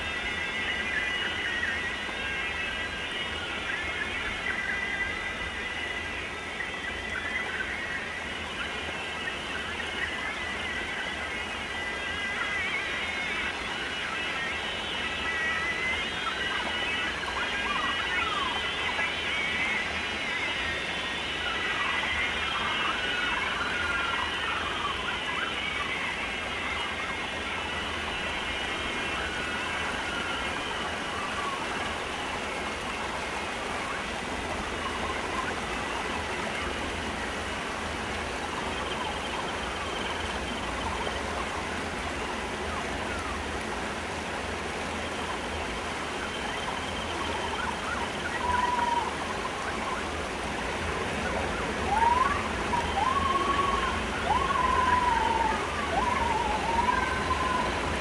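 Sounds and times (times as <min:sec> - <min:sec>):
sliding siren-like tones: 0:00.0 - 0:43.7, 0:44.8 - 0:58.0
hiss-like electronic noise texture: 0:00.0 - 0:58.0.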